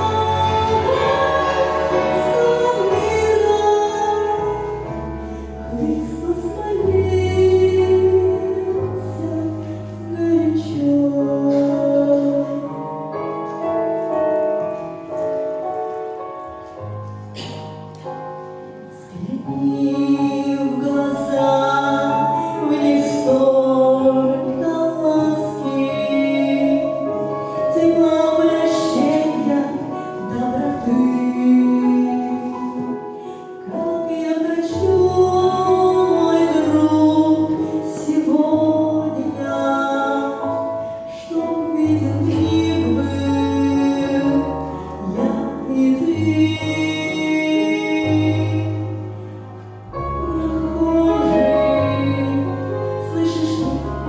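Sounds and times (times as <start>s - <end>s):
person singing: 0.0s - 13.6s, 18.9s - 54.0s
keyboard accompaniment: 0.0s - 54.0s.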